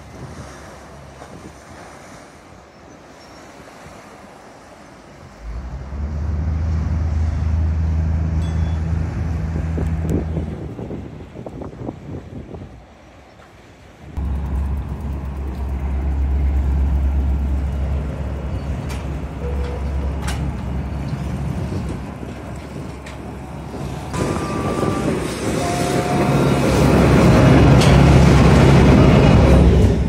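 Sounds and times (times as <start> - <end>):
boat diesel engine rumbling: 0.0 - 11.4, 12.8 - 30.0
wind: 0.0 - 30.0.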